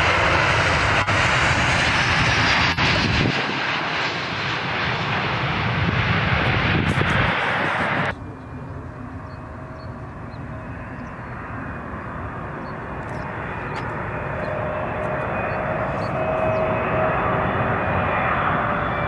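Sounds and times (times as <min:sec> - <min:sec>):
airplane on approach: 0:00.0 - 0:19.0
faint jet engine whine: 0:00.0 - 0:19.0
jet engines roaring: 0:00.0 - 0:19.0.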